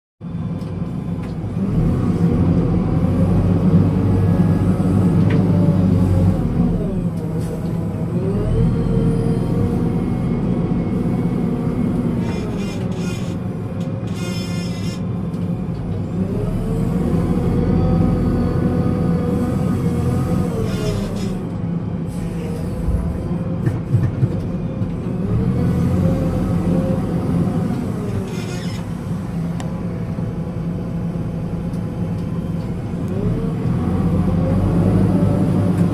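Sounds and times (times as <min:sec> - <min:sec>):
diesel engine revving: 0:01.4 - 0:15.2, 0:15.9 - 0:35.9.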